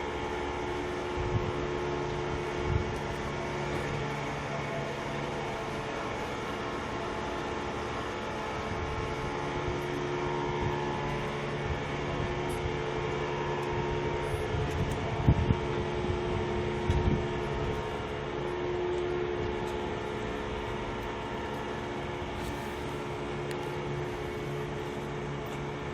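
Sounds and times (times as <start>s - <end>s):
steady mechanical drone: 0.0s - 25.9s.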